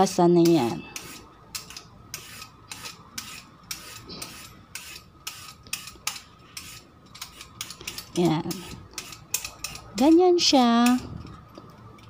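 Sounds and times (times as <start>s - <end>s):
peeler scraping carrot: 0.0s - 11.1s.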